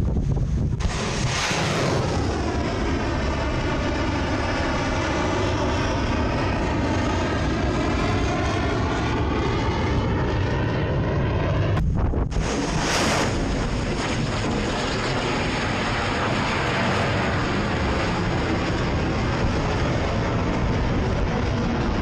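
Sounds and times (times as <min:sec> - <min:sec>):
missile engine roar: 0:00.0 - 0:22.0.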